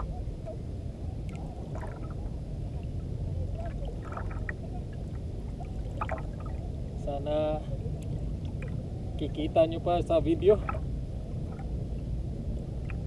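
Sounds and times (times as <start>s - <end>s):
steady low rumble: 0.0s - 13.0s
water lapping against boat hull: 1.2s - 9.6s, 10.4s - 13.0s.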